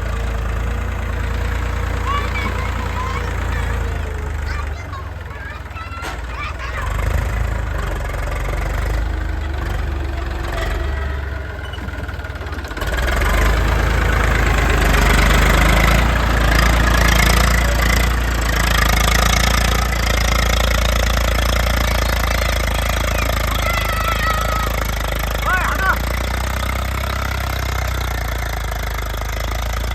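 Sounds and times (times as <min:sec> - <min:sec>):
diesel machinery engine running: 0:00.0 - 0:29.9.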